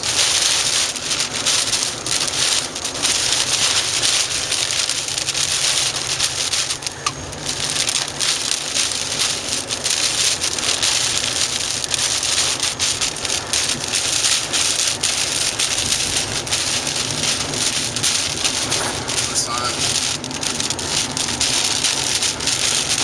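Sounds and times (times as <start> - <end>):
car driving noise: 0.0 - 23.0
heavy rain hitting car: 0.0 - 23.0.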